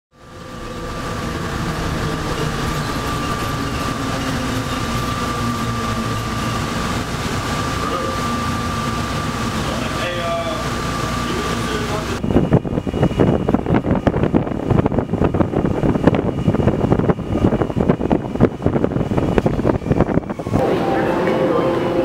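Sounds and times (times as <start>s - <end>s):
electric tram rumbling: 0.1s - 22.0s
high hum: 0.1s - 22.0s.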